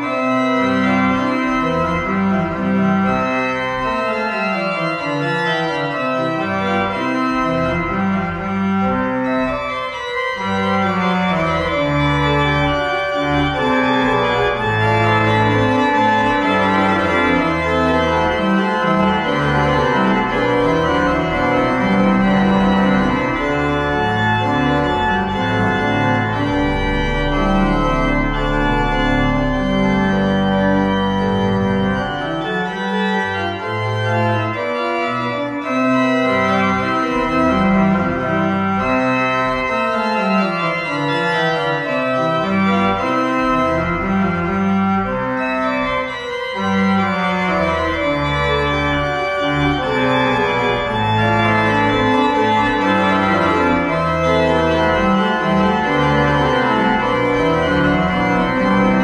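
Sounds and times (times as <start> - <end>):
organ music: 0.0 - 59.0.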